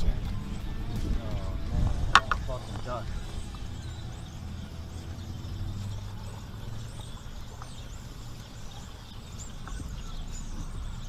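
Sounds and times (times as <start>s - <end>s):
birds chirping: 0.0s - 11.0s
low wind rumble on microphone: 0.0s - 11.0s.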